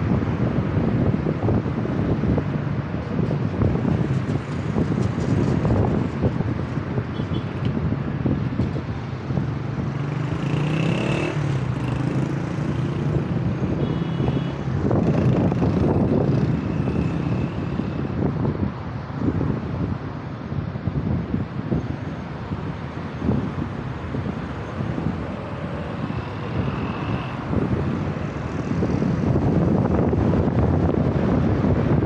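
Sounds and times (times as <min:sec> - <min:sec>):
engine hum: 0:00.0 - 0:32.0
road and wind noise: 0:00.0 - 0:32.0.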